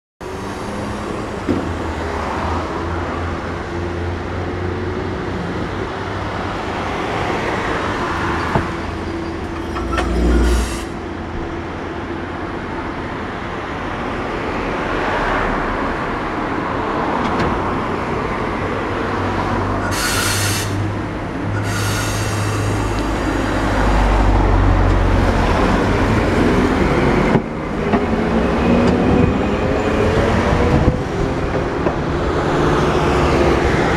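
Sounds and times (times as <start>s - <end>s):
streetcar rumbling: 0.2s - 33.9s.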